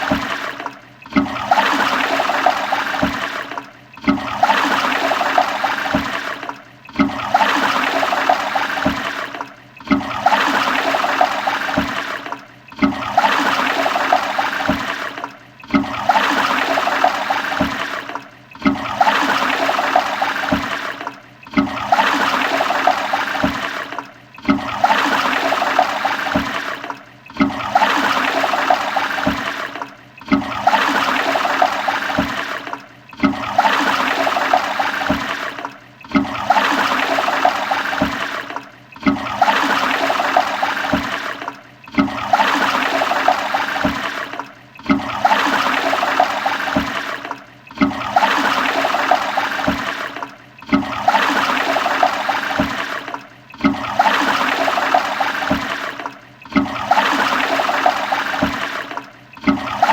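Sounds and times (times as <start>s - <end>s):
toilet flushing: 0.0s - 59.9s.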